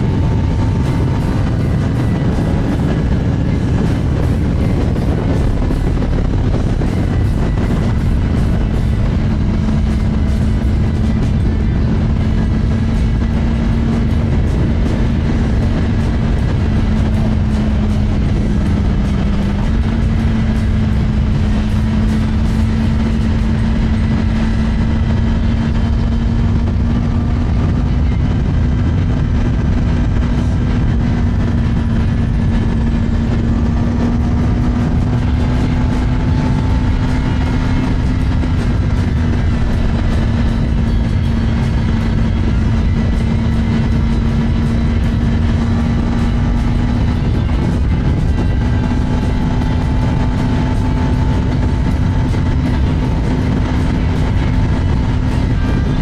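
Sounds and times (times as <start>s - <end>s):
motorcycle engine cruising: 0.0s - 56.0s
wind rumble on microphone: 0.0s - 56.0s.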